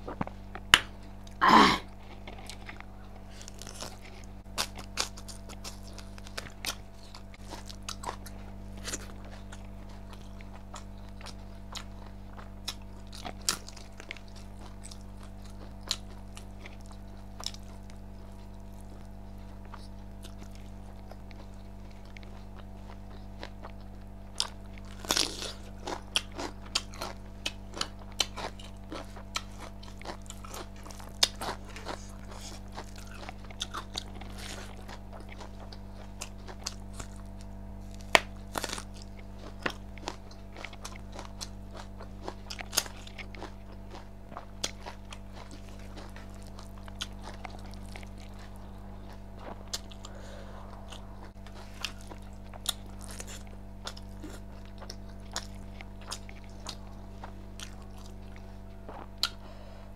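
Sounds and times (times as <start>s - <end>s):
person chewing crunchy food: 0.0s - 59.9s
steady low hum: 0.0s - 59.9s.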